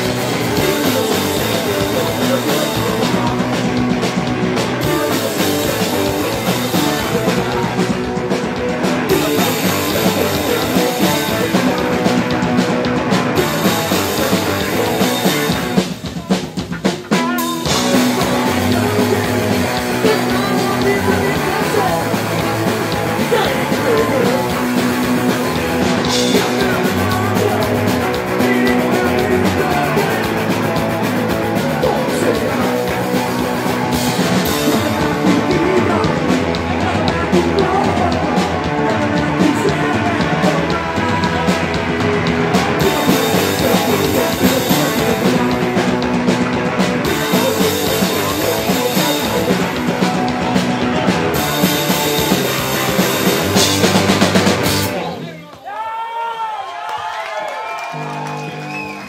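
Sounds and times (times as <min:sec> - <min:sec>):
punk rock band playing: 0:00.0 - 0:55.7, 0:57.9 - 0:59.0.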